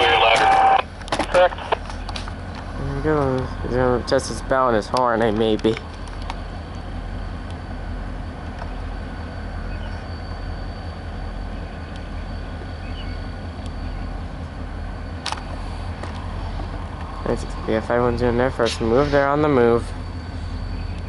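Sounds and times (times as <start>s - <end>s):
engine idling rumble: 0.0s - 21.0s
faint engine whine: 0.0s - 21.0s.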